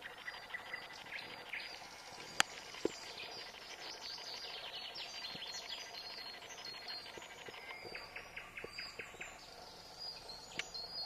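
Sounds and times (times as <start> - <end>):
faint steady hiss: 0.0 - 11.0
songbirds singing and chirping: 0.0 - 11.0.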